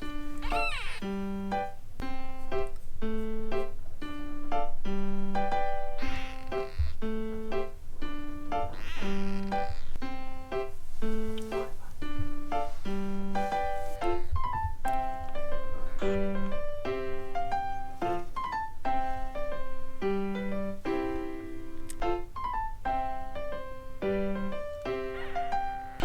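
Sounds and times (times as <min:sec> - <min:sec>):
solo piano tune: 0:00.0 - 0:26.0.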